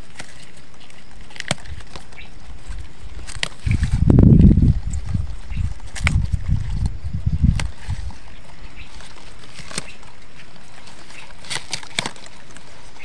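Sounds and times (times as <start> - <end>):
rustling onion plants: 0.0 - 13.0.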